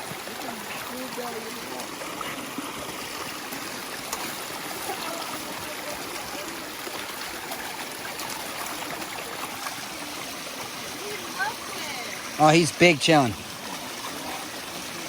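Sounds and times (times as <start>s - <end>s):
stream water babbling: 0.0s - 15.0s.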